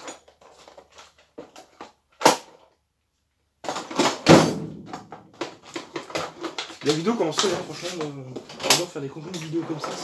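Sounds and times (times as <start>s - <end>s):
tools and drawers clattering: 0.0s - 2.7s, 3.6s - 10.0s.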